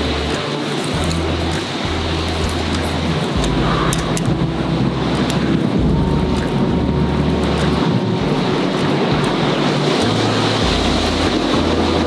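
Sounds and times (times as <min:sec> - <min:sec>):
campfire crackling pops: 0:00.0 - 0:12.0
wind rumbling on microphone: 0:00.0 - 0:12.0.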